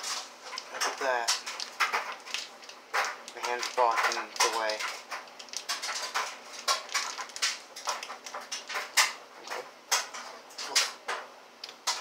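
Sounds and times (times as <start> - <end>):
plastic bottle crinkling: 0.0 - 9.6.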